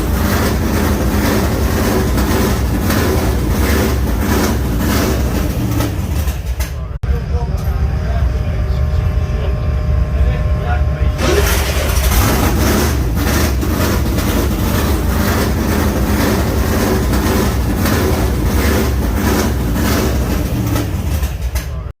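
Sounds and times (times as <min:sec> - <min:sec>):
car engine pulsing idle: 0:00.0 - 0:21.9.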